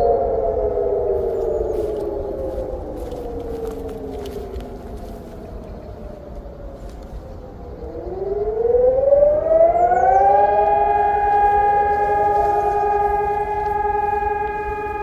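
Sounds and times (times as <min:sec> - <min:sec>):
electronic sirens wailing: 0:00.0 - 0:15.0.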